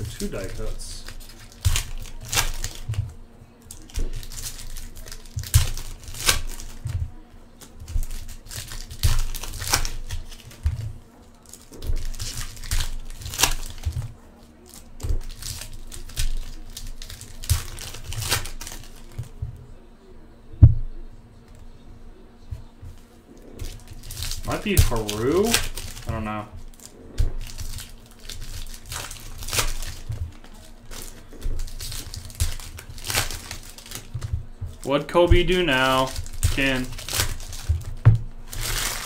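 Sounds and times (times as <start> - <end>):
foil wrappers tearing and crinkling: 0.0 - 19.4, 23.4 - 39.0.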